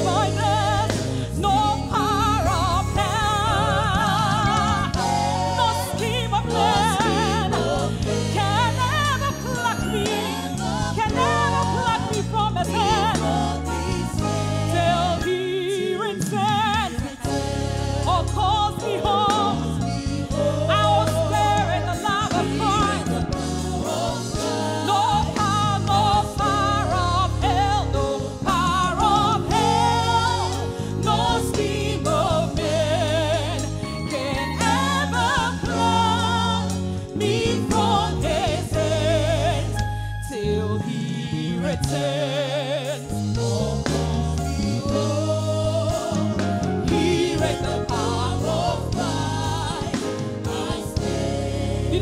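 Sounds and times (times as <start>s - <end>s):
band with steady bass line: 0.0s - 52.0s
singers singing with vibrato: 0.0s - 52.0s.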